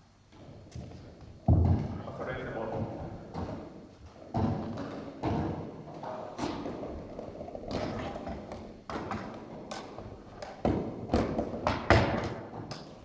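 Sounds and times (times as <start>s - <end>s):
ball bouncing on wooden floor: 0.4s - 13.0s.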